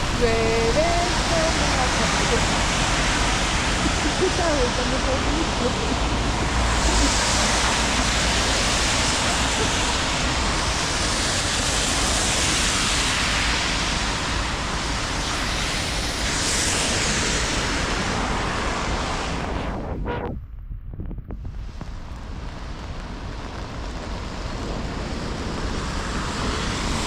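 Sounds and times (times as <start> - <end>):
tyres hissing on wet road: 0.0 - 19.6, 21.8 - 27.0
rain hiss: 0.0 - 19.9, 21.4 - 27.0.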